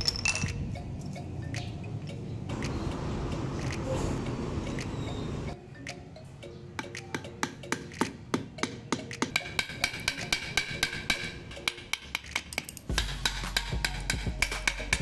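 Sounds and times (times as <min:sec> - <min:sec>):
background music with low bass: 0:00.0 - 0:15.0.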